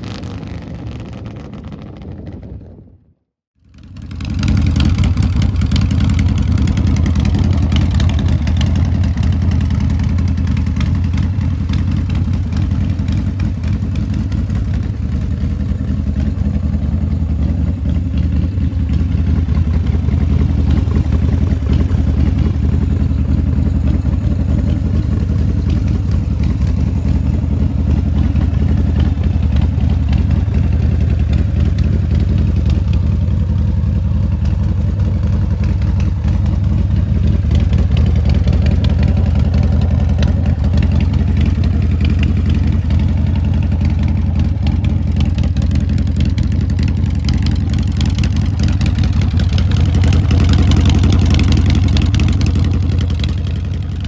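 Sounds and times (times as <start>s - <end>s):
motorcycle engine idling: 3.6s - 54.0s.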